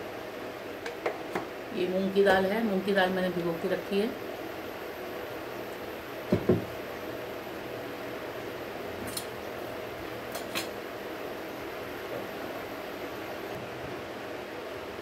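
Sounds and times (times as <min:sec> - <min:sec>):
cooling fan running: 0:00.0 - 0:15.0.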